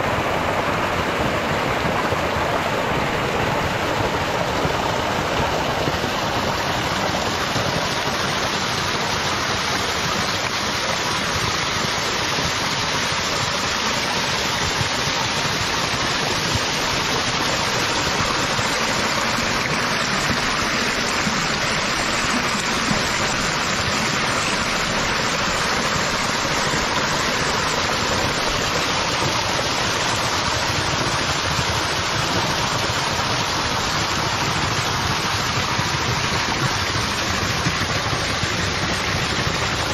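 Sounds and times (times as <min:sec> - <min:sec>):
water rushing through spillways: 0:00.0 - 0:39.9.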